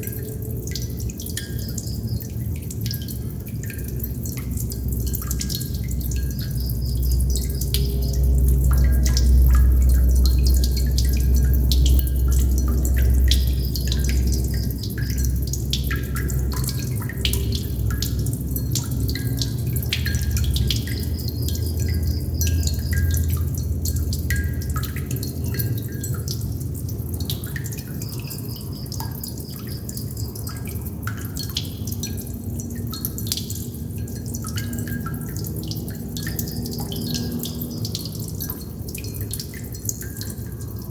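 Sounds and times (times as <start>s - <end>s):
water droplets dripping: 0.0s - 40.9s.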